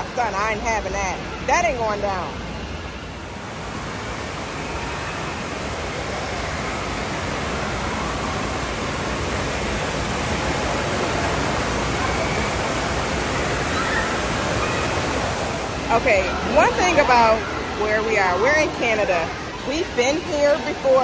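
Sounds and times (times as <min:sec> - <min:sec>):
running and falling water: 0:00.0 - 0:21.0.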